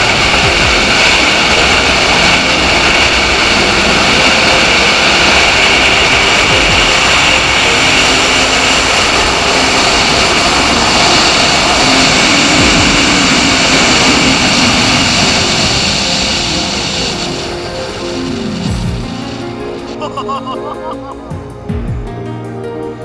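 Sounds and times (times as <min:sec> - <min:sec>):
wind on microphone: 0:00.0 - 0:19.3.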